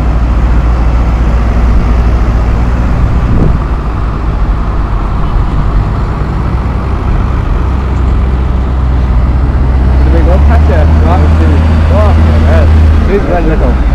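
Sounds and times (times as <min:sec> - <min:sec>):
tractor diesel engines driving past: 0:00.0 - 0:13.9.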